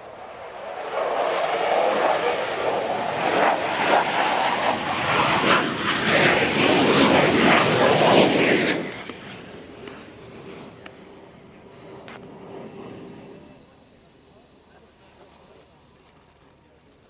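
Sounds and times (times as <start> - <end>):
aircraft engines roaring: 0.0 - 17.0.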